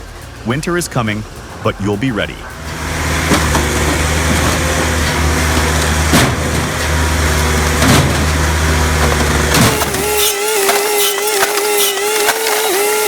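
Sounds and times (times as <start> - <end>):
machine engine running: 0.0 - 13.0.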